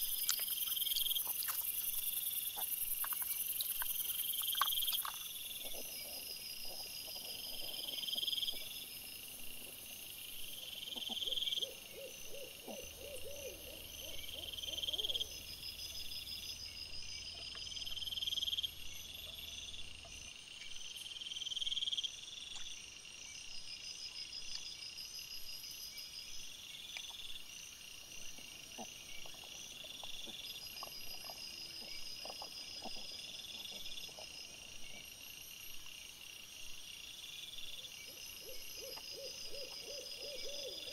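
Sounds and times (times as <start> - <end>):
night insects chirping: 0.0 - 40.9.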